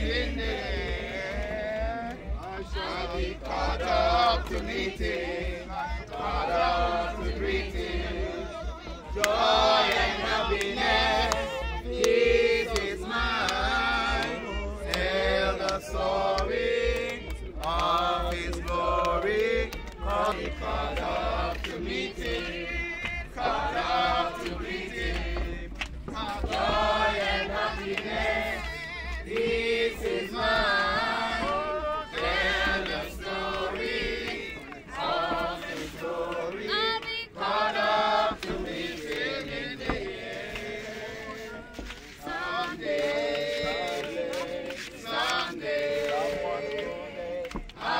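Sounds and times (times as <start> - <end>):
group singing a hymn: 0.0 - 47.9.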